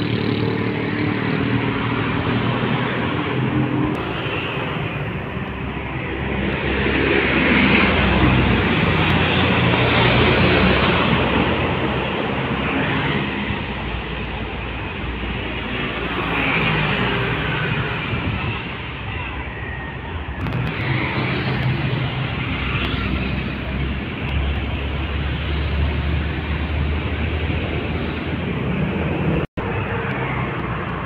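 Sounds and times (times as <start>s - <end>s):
diesel truck passing: 0.0s - 19.4s, 20.0s - 31.0s
road traffic noise: 0.0s - 31.0s.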